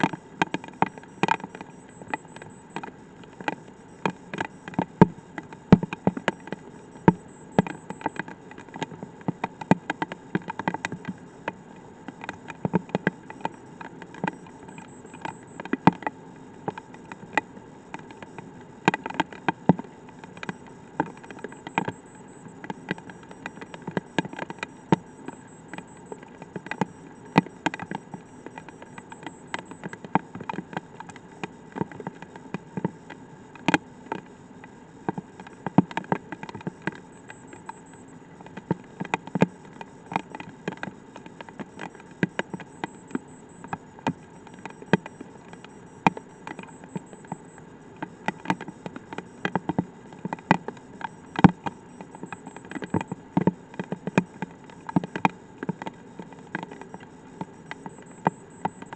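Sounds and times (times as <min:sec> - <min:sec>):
steady hum: 0:00.0 - 0:58.9.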